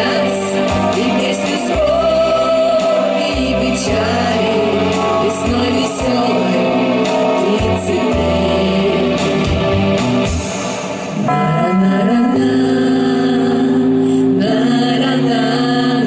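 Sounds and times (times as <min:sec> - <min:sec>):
women singing together: 0:00.0 - 0:09.6, 0:11.3 - 0:16.0
amplified instrumental backing: 0:00.0 - 0:16.0.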